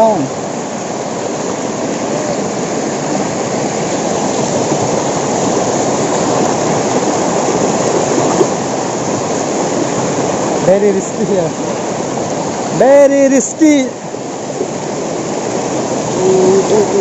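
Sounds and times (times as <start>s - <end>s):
waterfall rushing and splashing: 0.0s - 17.0s.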